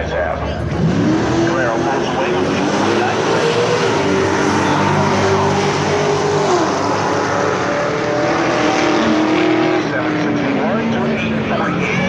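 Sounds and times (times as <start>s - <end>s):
racing car engines at full throttle: 0.0s - 12.0s.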